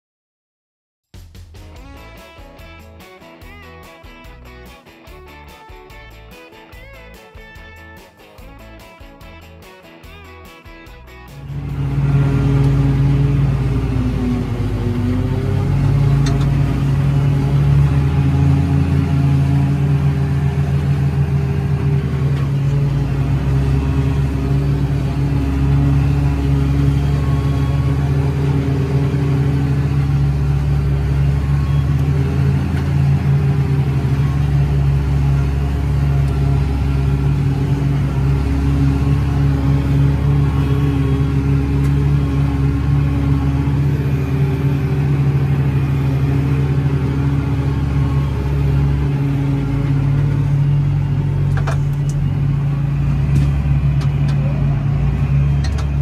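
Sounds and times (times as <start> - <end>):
tractor engine drone: 1.6 - 56.0.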